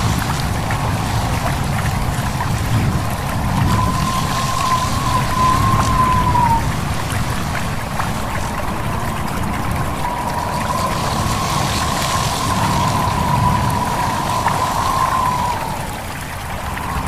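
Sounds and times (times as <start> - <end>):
babbling stream: 0.0 - 17.0
high wind whistle: 0.0 - 17.0
rushing wind: 0.0 - 17.0.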